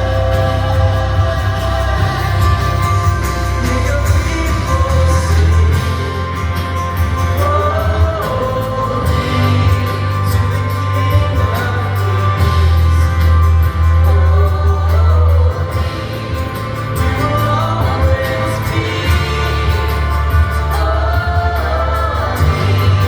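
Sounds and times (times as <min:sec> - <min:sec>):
steady bass: 0:00.0 - 0:23.0
voices singing: 0:00.0 - 0:23.0
worship band playing: 0:00.0 - 0:23.0.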